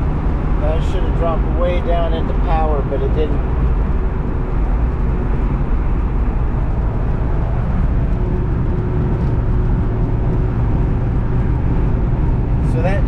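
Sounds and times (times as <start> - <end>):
car engine droning: 0.0 - 13.0
low hum: 0.0 - 13.0
wind and road noise: 0.0 - 13.0.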